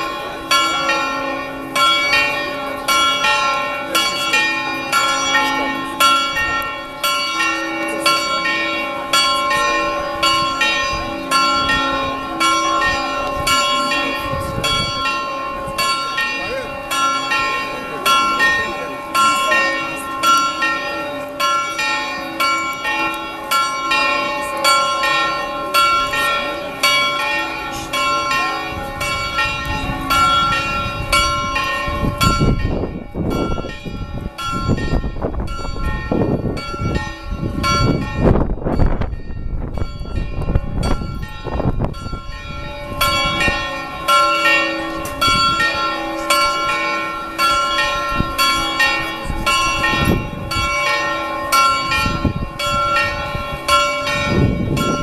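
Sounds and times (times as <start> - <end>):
carillon bells chiming: 0.0 - 55.0.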